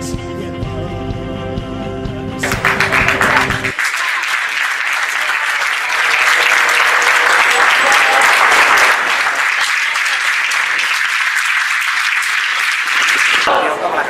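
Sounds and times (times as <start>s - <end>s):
crowd applauding: 2.4s - 14.0s.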